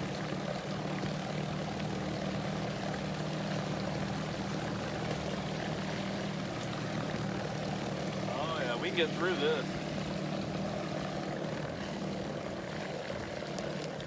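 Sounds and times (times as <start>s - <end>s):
electric boat motor humming: 0.0s - 14.0s.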